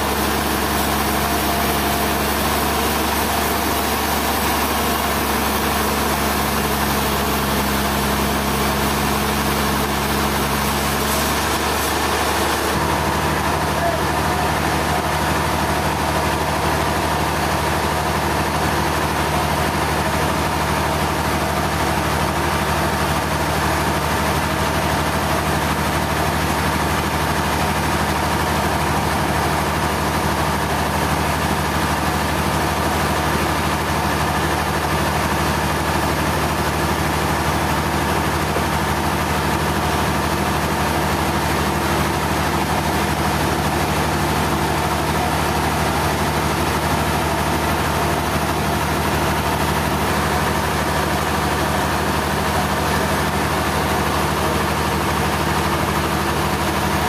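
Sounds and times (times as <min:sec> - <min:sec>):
heavy engine running steadily: 0:00.0 - 0:57.0.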